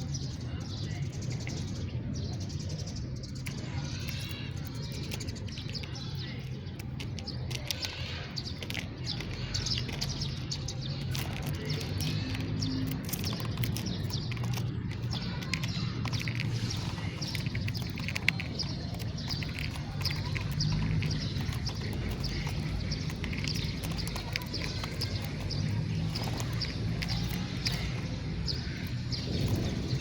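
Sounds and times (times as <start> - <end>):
sparrows chirping: 0.0 - 30.0.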